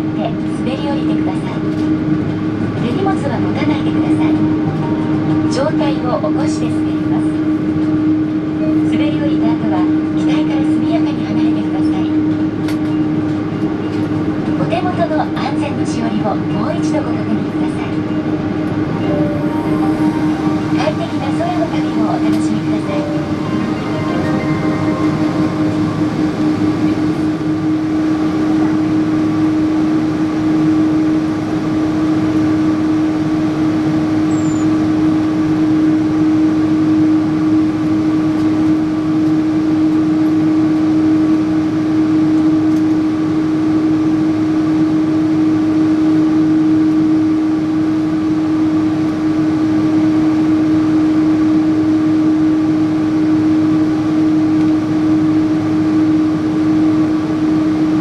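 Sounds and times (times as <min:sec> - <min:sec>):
airliner cabin engine hum: 0:00.0 - 0:58.0.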